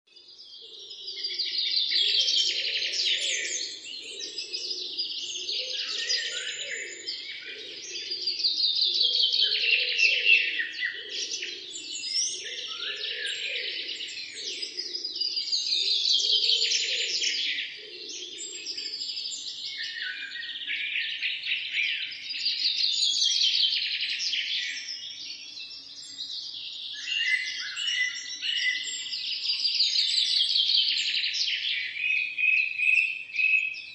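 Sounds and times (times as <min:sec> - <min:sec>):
songbirds singing in chorus: 0:00.0 - 0:33.9.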